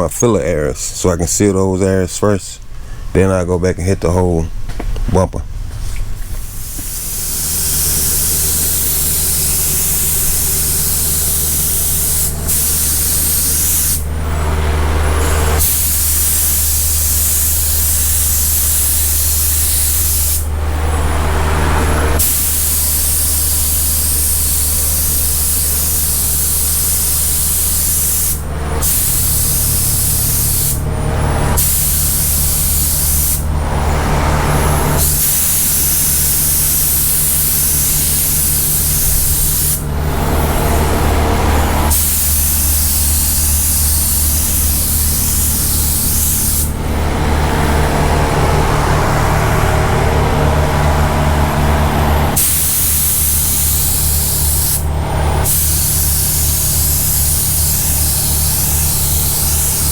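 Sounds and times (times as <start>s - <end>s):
steady low hum: 0.0s - 59.9s
spray gun hissing: 6.2s - 47.2s, 52.3s - 59.9s.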